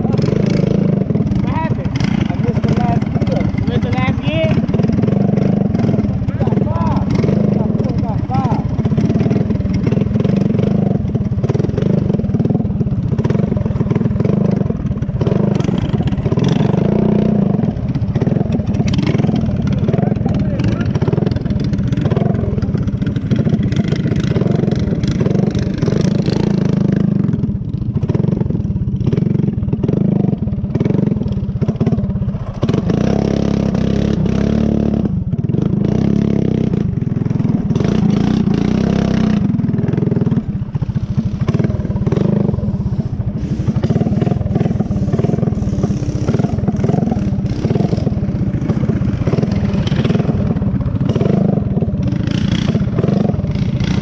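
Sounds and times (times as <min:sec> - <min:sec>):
small off-road engine revving: 0:00.0 - 0:54.0.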